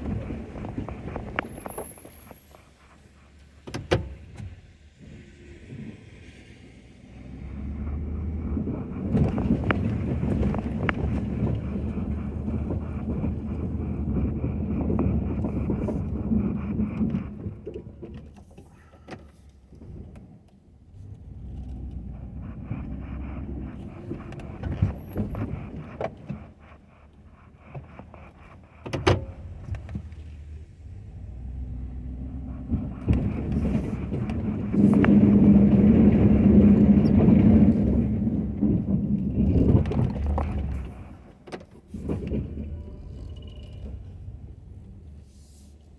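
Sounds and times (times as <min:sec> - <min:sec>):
pickup truck engine running: 0:00.0 - 0:19.0, 0:19.8 - 0:45.9.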